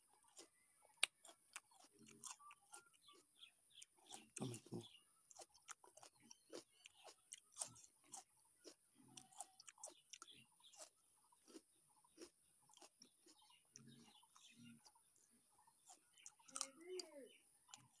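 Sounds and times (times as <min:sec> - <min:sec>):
faint chewing with crunches: 0:00.0 - 0:18.0.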